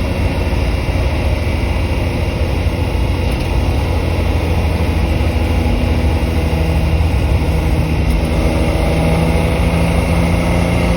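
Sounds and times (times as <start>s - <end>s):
car engine rumble: 0.0s - 10.9s
road noise: 0.0s - 10.9s.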